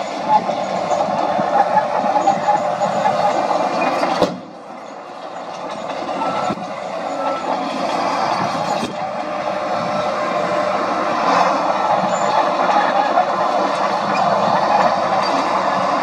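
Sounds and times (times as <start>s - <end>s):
bulldozer diesel engine running: 0.0s - 16.0s
steel tracks moving: 0.0s - 16.0s.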